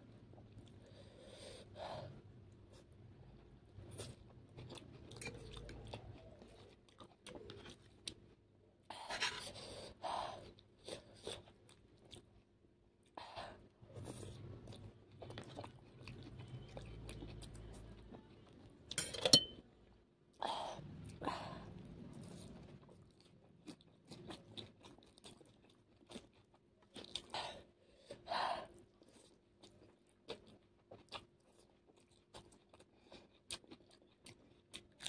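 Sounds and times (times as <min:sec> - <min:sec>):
person chewing noodles: 0:00.1 - 0:18.9, 0:19.9 - 0:35.0.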